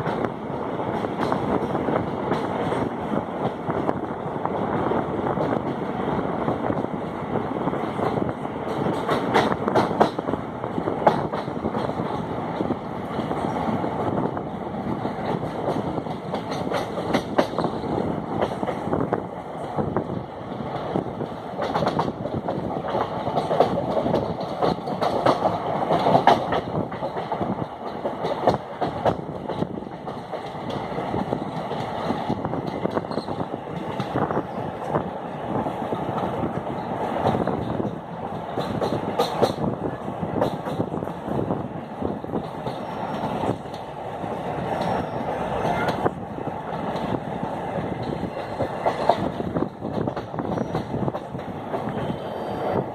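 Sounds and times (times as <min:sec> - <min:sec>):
train rumble and rattle: 0:00.0 - 0:52.9
wheels clacking over rails: 0:07.9 - 0:52.2.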